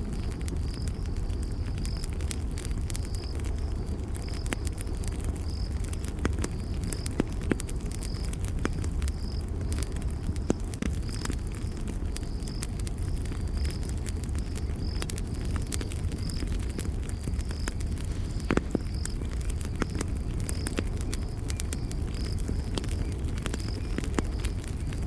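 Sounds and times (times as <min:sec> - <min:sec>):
campfire crackling: 0:00.0 - 0:25.0
insect chirping: 0:00.1 - 0:02.1, 0:02.7 - 0:25.0.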